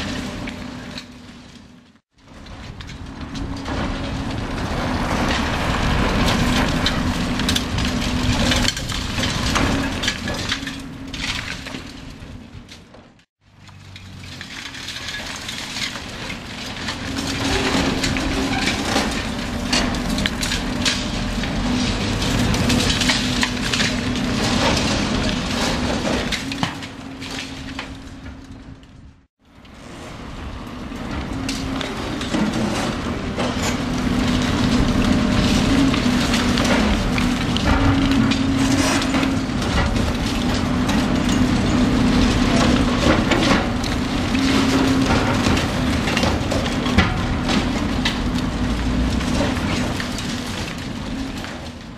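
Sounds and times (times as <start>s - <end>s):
hydraulic crusher crunching concrete: 0.0s - 51.9s
machine engine drone: 0.0s - 51.9s.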